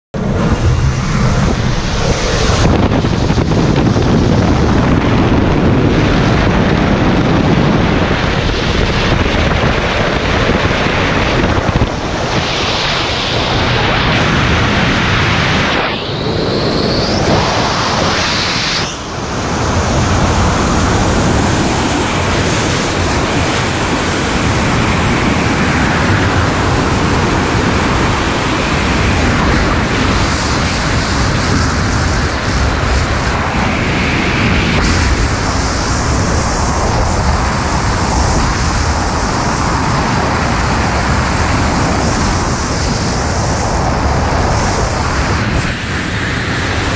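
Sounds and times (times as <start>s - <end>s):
wind buffeting microphone: 0.1s - 46.9s.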